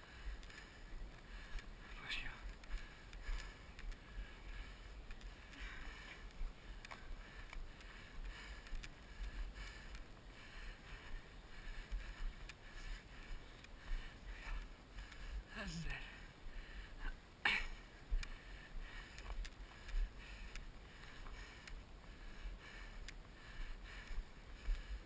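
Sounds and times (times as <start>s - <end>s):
heavy labored breathing: 0.0s - 25.0s
low rumble of movement and wind: 0.0s - 25.0s.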